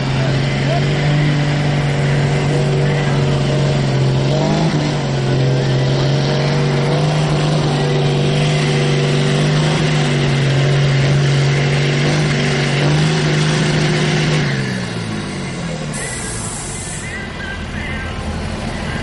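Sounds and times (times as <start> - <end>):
diesel engine at high revs: 0.0 - 19.0.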